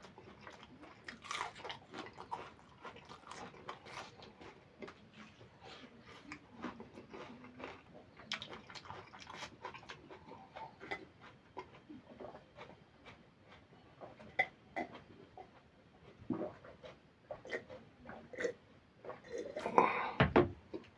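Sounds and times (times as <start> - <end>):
person chewing food: 0.0 - 20.9.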